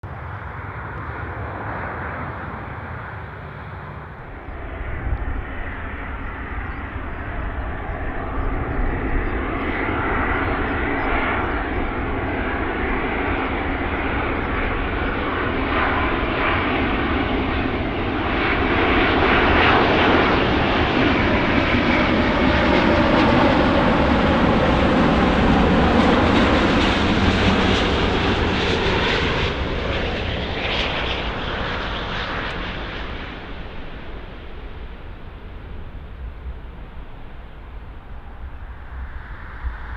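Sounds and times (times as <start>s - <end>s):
jet airliner approaching: 0.0s - 39.9s.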